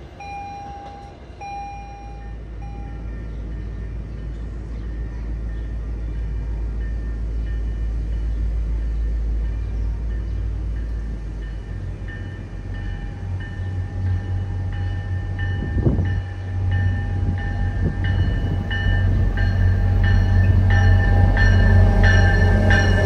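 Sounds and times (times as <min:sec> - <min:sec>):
locomotive bell ringing: 0:00.0 - 0:03.8, 0:04.9 - 0:23.0
diesel locomotive engine rumble: 0:00.0 - 0:23.0.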